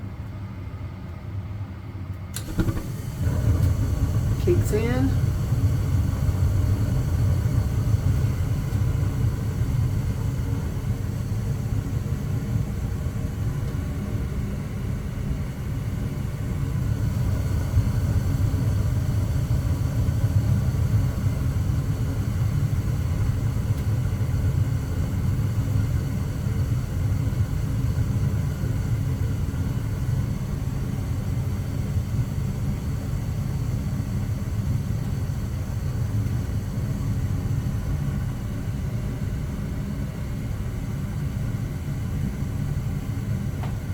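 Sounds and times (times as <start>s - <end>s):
gas furnace rumbling: 0.0s - 43.9s.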